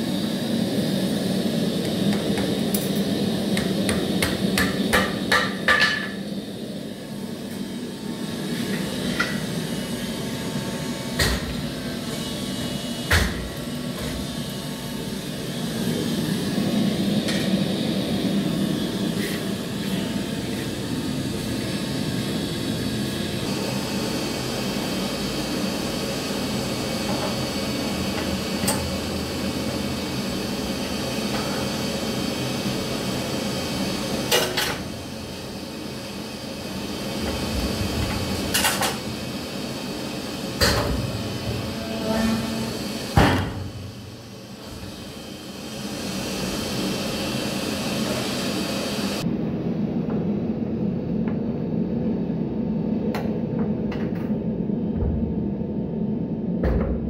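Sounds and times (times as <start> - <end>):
press equipment humming: 0.0 - 57.0.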